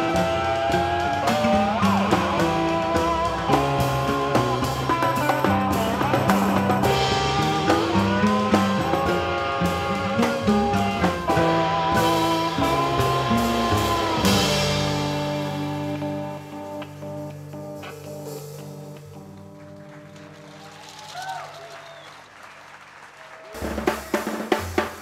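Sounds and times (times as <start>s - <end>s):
drum hits: 0.0s - 19.7s, 23.6s - 25.0s
gliding lap steel guitar notes: 0.0s - 20.4s
live instrumental band: 0.0s - 25.0s.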